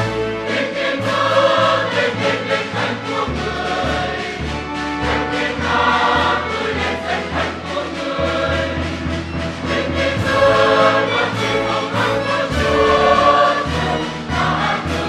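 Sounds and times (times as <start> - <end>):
mixed choir singing a hymn: 0.0 - 15.0.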